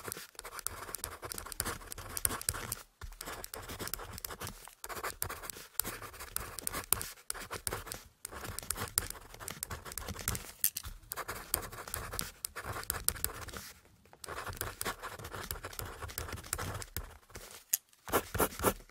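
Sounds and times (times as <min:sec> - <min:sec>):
pen writing on paper: 0:00.0 - 0:10.5, 0:11.1 - 0:18.9.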